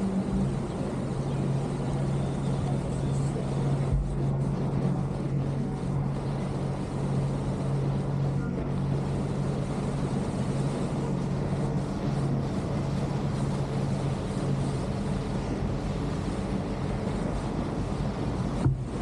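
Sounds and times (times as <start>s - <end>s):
boat engine humming: 0.0s - 19.0s.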